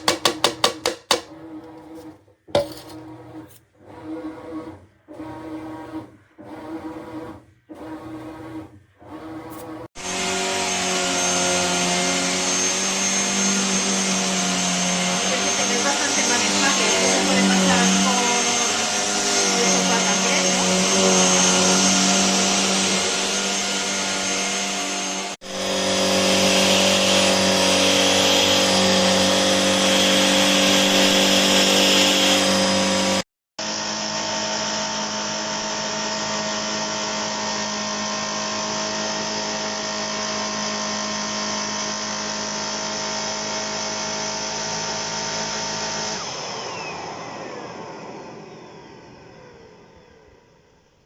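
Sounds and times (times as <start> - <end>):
handheld vacuum cleaner running: 0.0 - 50.6
vacuum motor winding down: 2.7 - 50.9.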